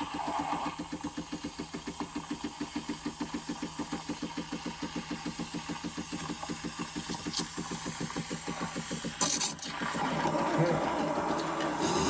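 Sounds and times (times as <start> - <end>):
steam wand hissing and chugging: 0.0 - 12.0.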